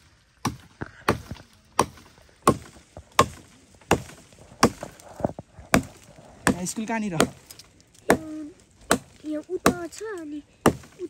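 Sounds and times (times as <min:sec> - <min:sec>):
blade chopping firewood: 0:00.0 - 0:11.0.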